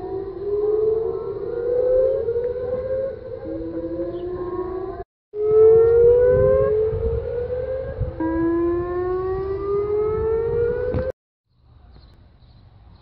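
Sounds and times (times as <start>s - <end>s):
tornado warning siren: 0.0s - 11.2s.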